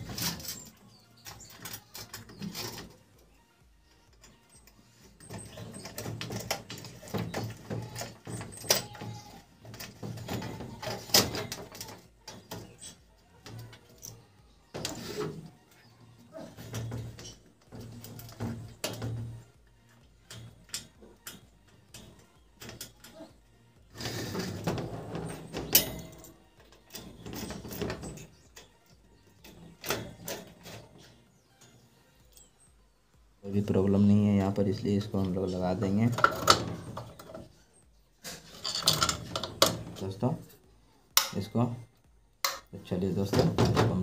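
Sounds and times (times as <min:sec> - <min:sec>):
metal wire guard rattling: 0:00.0 - 0:03.2, 0:03.9 - 0:32.7, 0:33.4 - 0:44.0.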